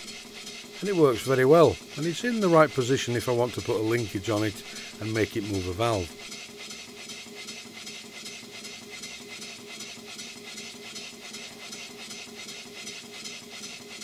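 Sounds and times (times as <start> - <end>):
light mechanical rattle: 0.0 - 14.0
steam engine running: 0.0 - 14.0.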